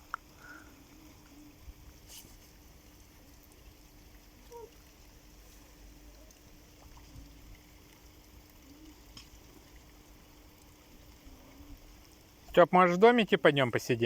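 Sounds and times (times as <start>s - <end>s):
faint steady hum: 0.0s - 14.0s
light rain: 0.0s - 14.0s
trickling rainwater: 0.0s - 14.0s.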